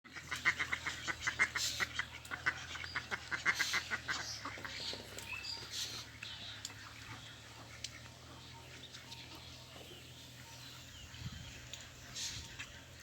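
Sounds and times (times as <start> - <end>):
ducks quacking: 0.1 - 13.0.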